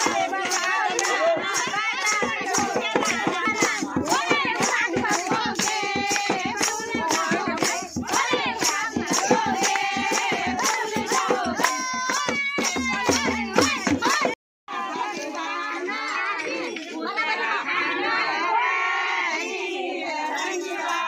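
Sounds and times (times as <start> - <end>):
rhythmic hand-clapping: 0.0 - 21.0
women singing folk song: 0.0 - 21.0.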